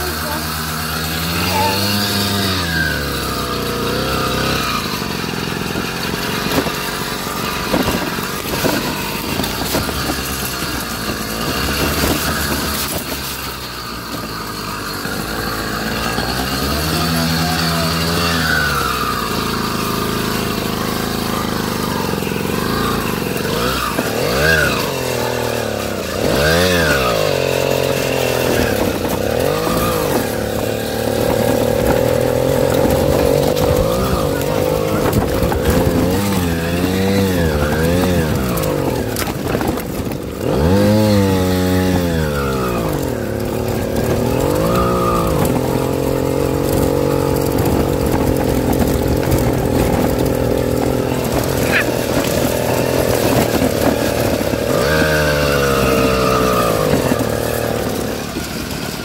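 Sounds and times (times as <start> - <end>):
knocks and rattles: 0.0 - 59.0
off-road vehicle engine revving: 0.0 - 59.0.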